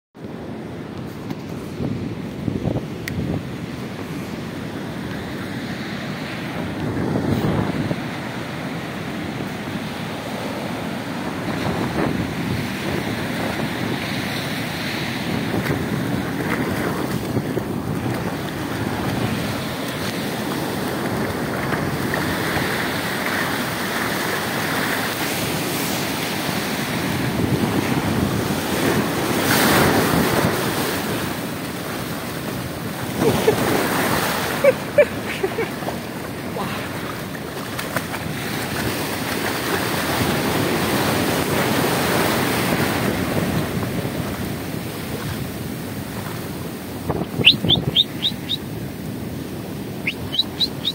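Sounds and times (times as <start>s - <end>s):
waves breaking on shore: 0.2s - 50.9s
wind buffeting microphone: 1.1s - 50.9s.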